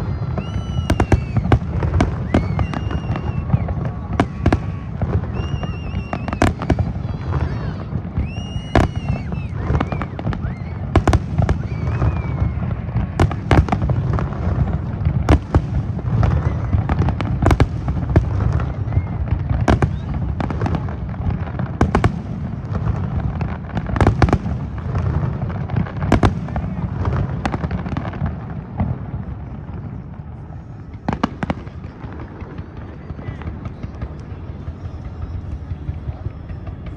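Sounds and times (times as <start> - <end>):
fireworks bangs and pops: 0.0 - 36.9
whistling fireworks: 0.0 - 36.9.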